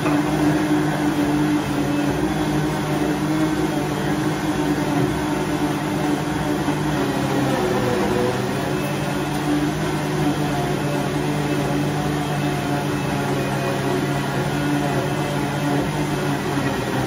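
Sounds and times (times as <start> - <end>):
blender running: 0.0 - 17.0.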